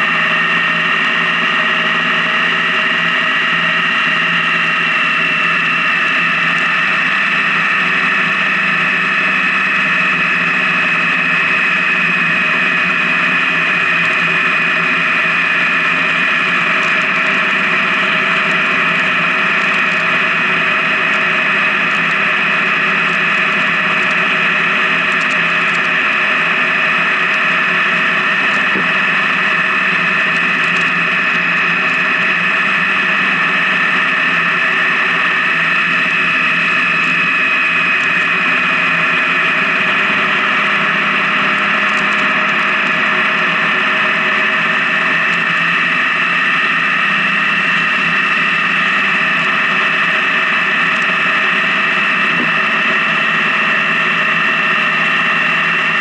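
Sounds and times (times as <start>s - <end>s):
high engine whine: 0.0s - 56.0s
motorcycle engine and road drone: 0.0s - 56.0s.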